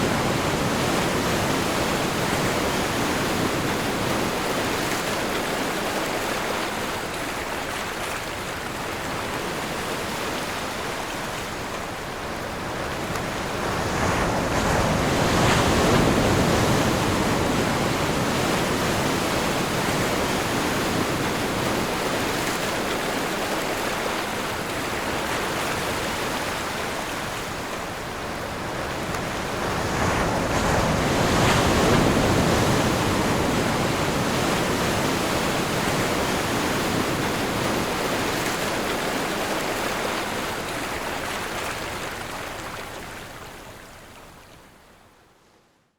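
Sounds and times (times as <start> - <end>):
ocean waves breaking on shore: 0.0 - 45.0.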